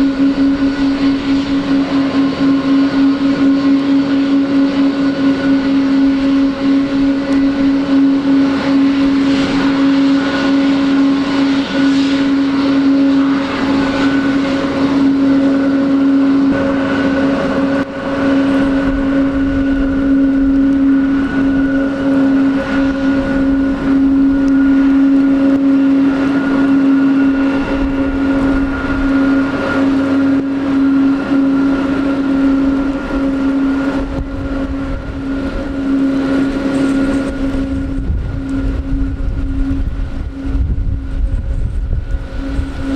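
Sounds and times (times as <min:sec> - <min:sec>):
deep rumble: 0:00.0 - 0:42.9
jet engines whining: 0:00.0 - 0:42.9.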